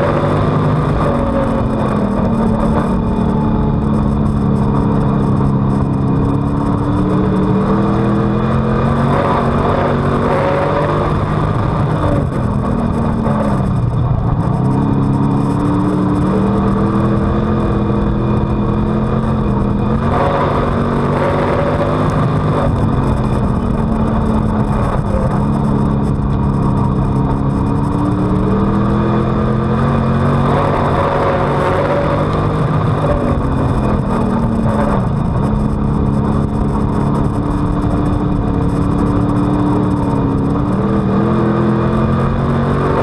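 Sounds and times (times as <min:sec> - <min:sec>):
constant rushing noise: 0:00.0 - 0:43.0
race car engine revving: 0:00.0 - 0:43.0.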